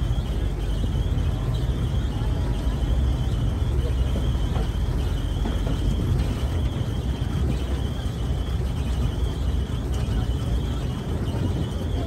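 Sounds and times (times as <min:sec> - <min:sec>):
rail cart rumbling on track: 0:00.0 - 0:12.0.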